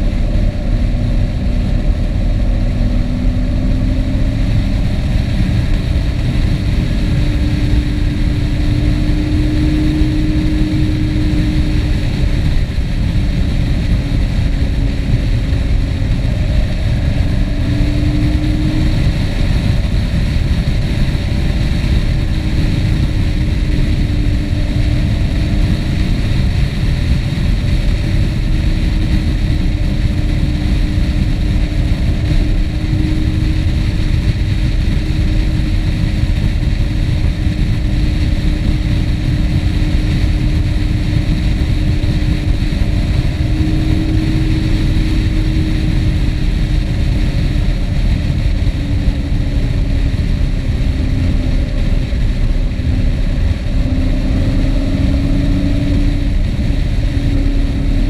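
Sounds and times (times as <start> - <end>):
low rumbling wind and road noise: 0.0 - 58.0
vehicle engine cruising: 0.0 - 58.0.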